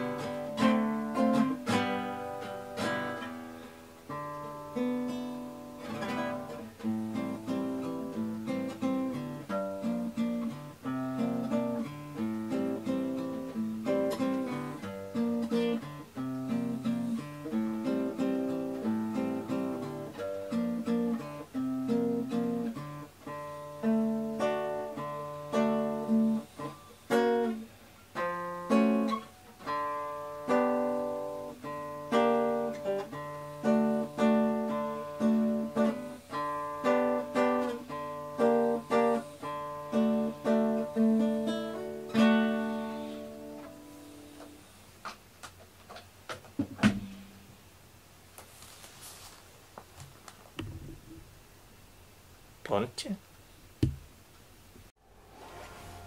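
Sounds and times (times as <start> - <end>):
acoustic guitar playing: 0.0 - 45.1, 50.6 - 51.8.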